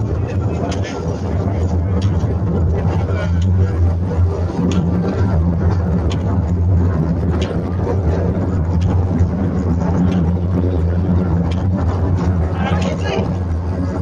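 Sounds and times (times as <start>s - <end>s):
faint regular machine clicks: 0.0s - 13.8s
machine motor hum: 0.0s - 14.0s.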